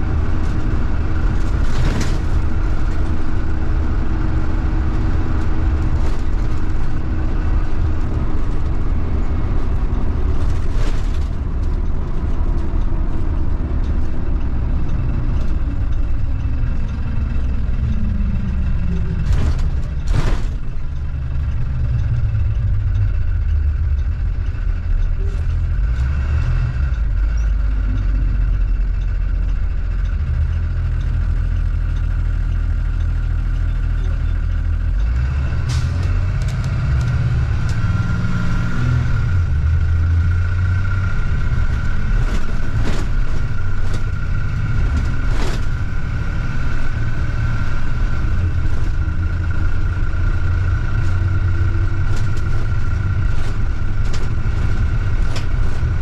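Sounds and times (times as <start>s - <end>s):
bus body rattles and clicks: 0.0s - 56.0s
bus engine running: 0.0s - 56.0s.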